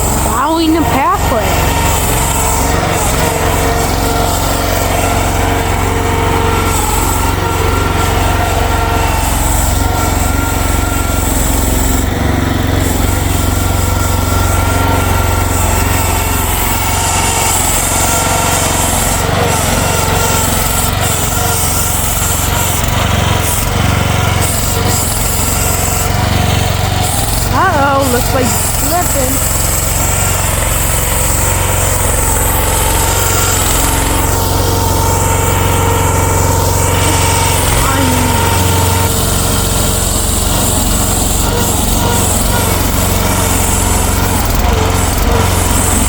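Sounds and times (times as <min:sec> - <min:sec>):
blade plowing snow: 0:00.0 - 0:46.0
small gasoline engine under load: 0:00.0 - 0:46.0.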